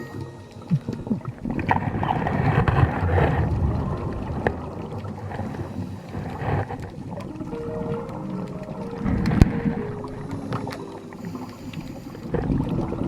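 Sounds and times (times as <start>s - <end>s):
underwater bubbles gurgling: 0.0s - 13.0s.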